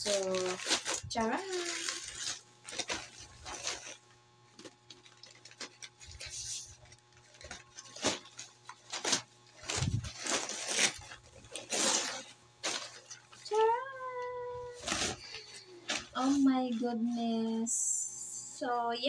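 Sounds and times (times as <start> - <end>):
paper and plastic crinkling: 0.0 - 17.6.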